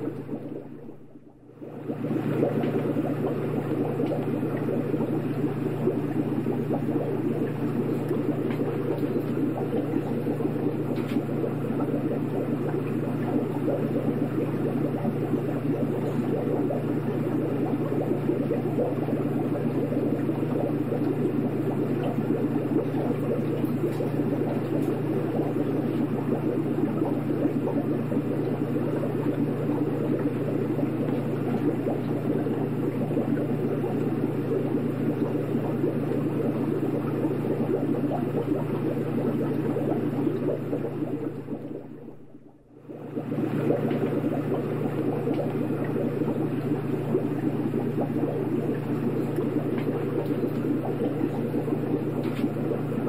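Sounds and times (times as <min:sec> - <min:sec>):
aquarium equipment hum: 0:00.0 - 0:53.0
water bubbling and gurgling: 0:00.0 - 0:53.0.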